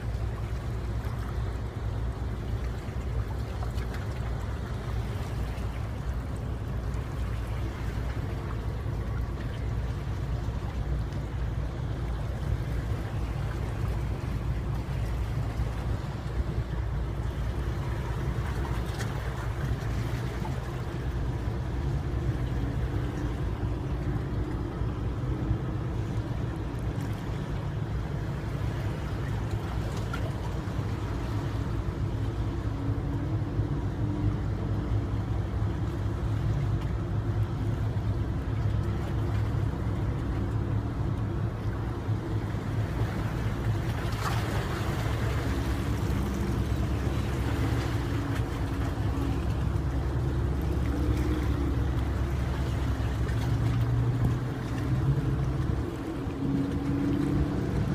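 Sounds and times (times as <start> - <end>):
boat engine drone: 0.0 - 57.9.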